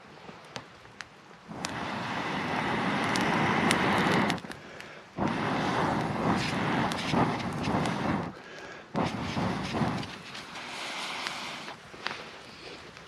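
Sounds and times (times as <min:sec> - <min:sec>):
person blowing on fire: 0:01.5 - 0:12.9.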